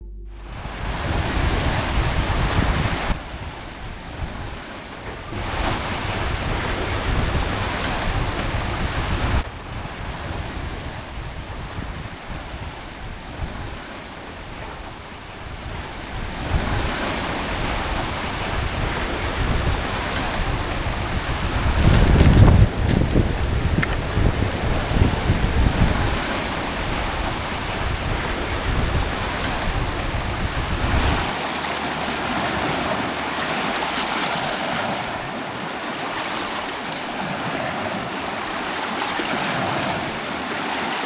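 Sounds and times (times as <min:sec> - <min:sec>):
wind buffeting microphone: 0:00.0 - 0:41.0
waves on a lake: 0:00.6 - 0:41.0.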